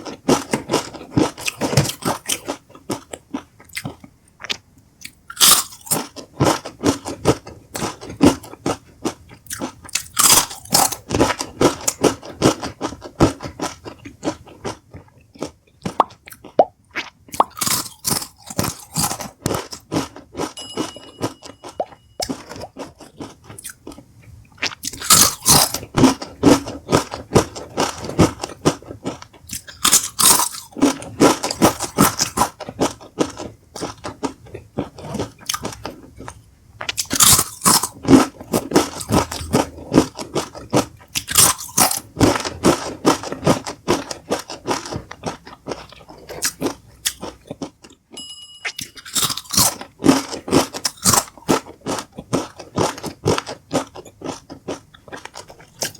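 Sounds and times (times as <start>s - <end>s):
tortilla chips crunching: 0.0s - 20.6s, 21.6s - 48.0s, 48.8s - 55.9s.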